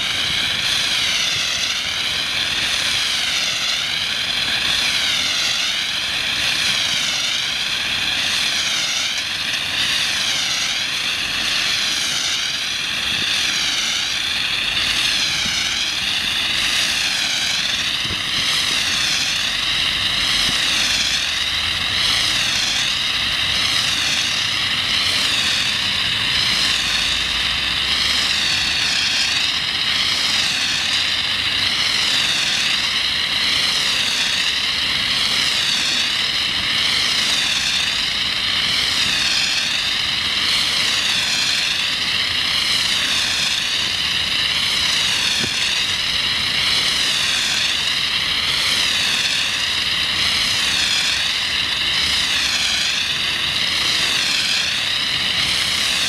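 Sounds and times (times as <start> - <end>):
foam nozzle rushing hiss: 0.0 - 56.0.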